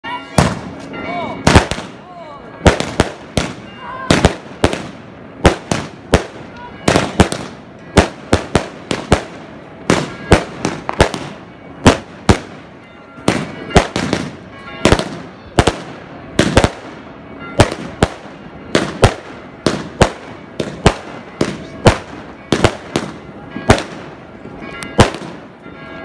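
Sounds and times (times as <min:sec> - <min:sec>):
fireworks bursting: 0:00.3 - 0:02.0, 0:02.6 - 0:24.3, 0:24.9 - 0:25.5.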